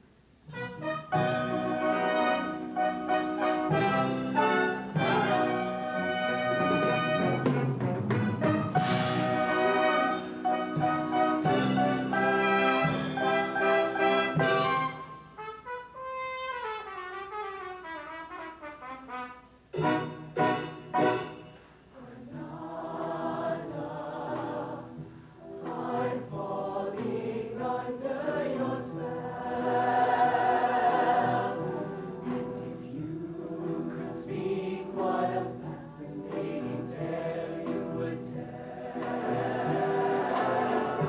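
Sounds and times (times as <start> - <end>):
choir singing: 1.1 - 15.0, 21.9 - 41.0.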